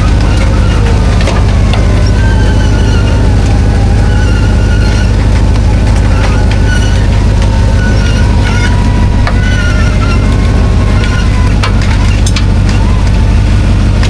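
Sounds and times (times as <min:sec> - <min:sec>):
faint squeaks and creaks: 0:00.0 - 0:14.0
off-road vehicle engine rumbling: 0:00.0 - 0:14.0.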